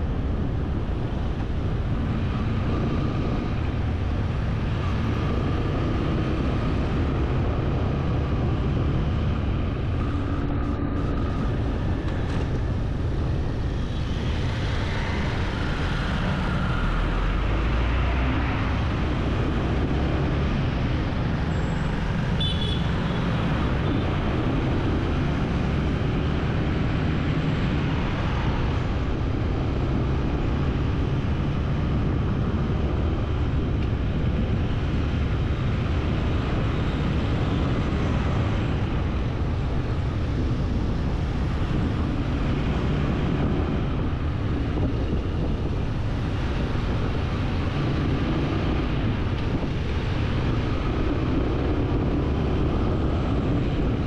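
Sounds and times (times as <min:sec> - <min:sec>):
vehicle low rumble: 0:00.0 - 0:54.0.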